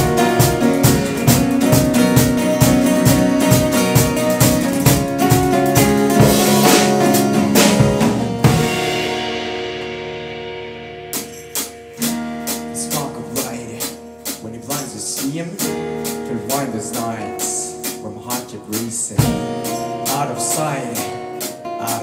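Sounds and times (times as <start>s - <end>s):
acoustic rock band playing: 0.0s - 22.0s
strummed guitar chords: 0.0s - 22.0s.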